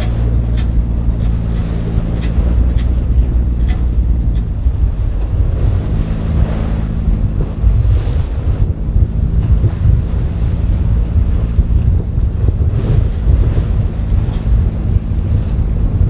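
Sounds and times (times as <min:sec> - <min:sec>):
boat engine running: 0:00.0 - 0:16.0
sea washing against hull: 0:00.0 - 0:16.0
wind buffeting microphone: 0:00.0 - 0:16.0.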